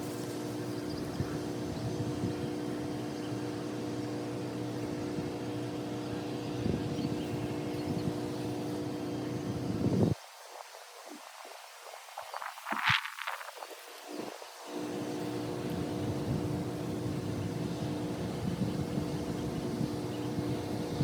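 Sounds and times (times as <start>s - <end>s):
motor drone: 0.0s - 10.2s, 14.1s - 21.0s.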